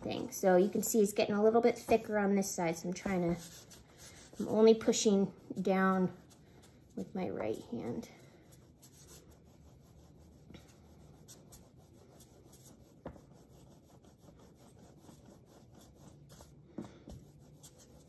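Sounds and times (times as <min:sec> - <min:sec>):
palms rolling clay on a board: 0:00.0 - 0:18.0.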